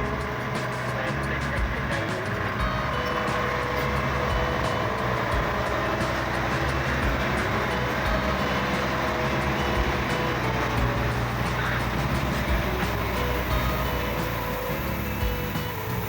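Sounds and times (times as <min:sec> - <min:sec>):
heavy machinery running: 0:00.0 - 0:16.0.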